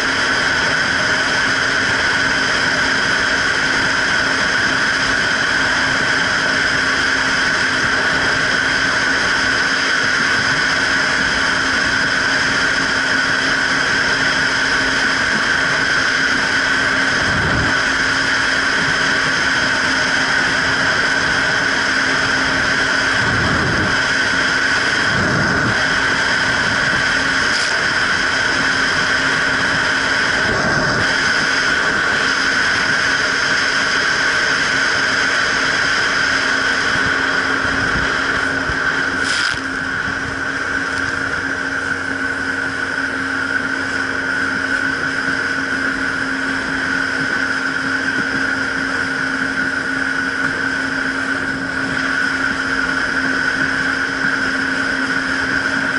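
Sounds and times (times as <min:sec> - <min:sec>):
jet ski engine whine: 0:00.0 - 0:55.9.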